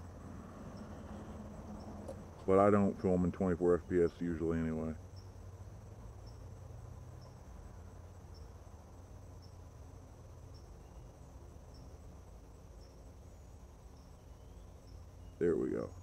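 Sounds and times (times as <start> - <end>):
crickets trilling: 0.0 - 16.0
low steady hum: 0.0 - 16.0.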